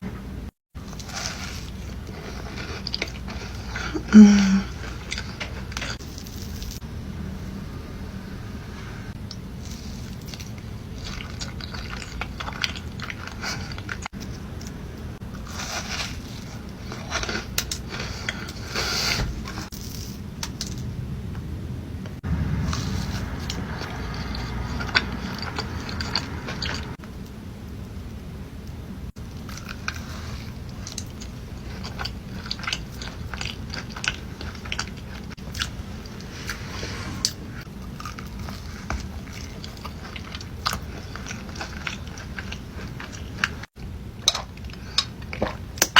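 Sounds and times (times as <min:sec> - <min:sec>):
chewing: 0:00.8 - 0:06.8, 0:09.1 - 0:20.1, 0:22.6 - 0:27.1, 0:28.6 - 0:45.9.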